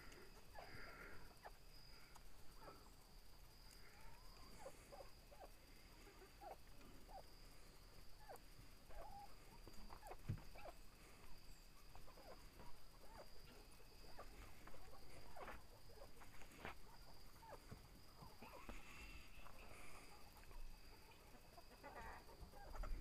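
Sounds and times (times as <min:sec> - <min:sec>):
chickens clucking softly: 0:00.0 - 0:23.0.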